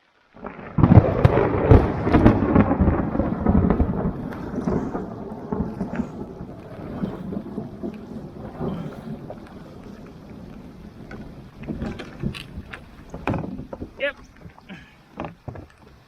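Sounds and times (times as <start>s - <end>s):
thunder crash and rumble: 0.4s - 14.0s.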